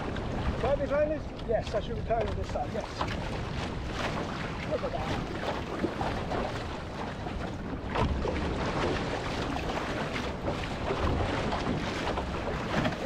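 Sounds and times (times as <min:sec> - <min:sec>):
sea water splashing against canoe: 0:00.0 - 0:13.0
wind buffeting microphone: 0:00.0 - 0:13.0.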